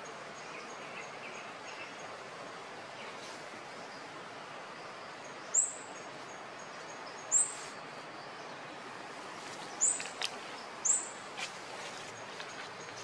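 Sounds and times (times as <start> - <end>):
forest hiss: 0.0 - 13.0.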